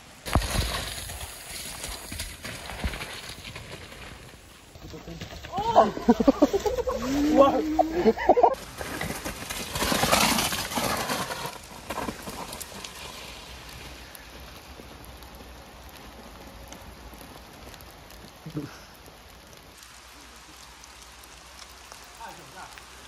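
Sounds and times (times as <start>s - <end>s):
rain hissing: 0.0s - 9.2s, 11.4s - 23.0s
bike tyres skidding and rattling: 0.0s - 18.8s.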